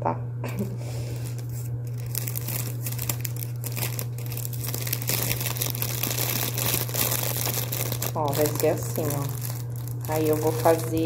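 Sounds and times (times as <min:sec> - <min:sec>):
steady low hum: 0:00.0 - 0:11.0
plastic bag crinkling: 0:01.1 - 0:11.0.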